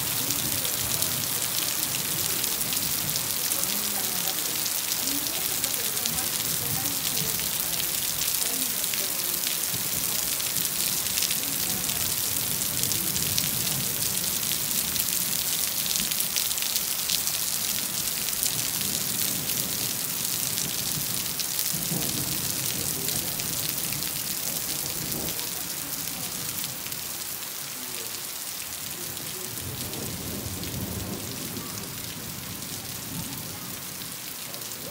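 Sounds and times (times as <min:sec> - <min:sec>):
heavy rain on wet paving: 0:00.0 - 0:34.9.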